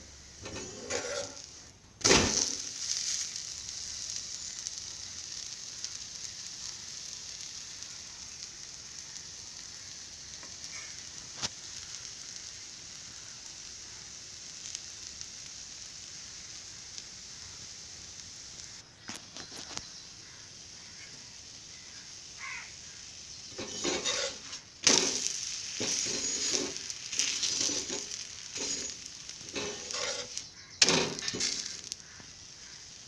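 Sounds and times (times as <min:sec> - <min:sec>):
batter sizzling on a hot pan: 0:00.0 - 0:33.0.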